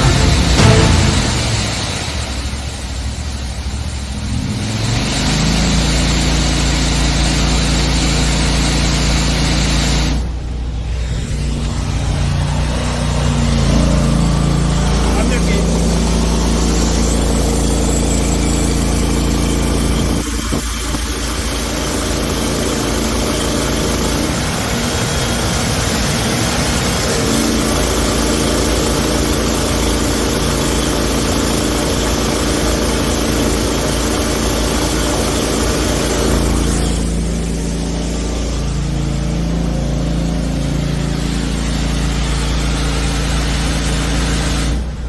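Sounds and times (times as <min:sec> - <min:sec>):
gasoline engine running: 0:00.0 - 0:45.0.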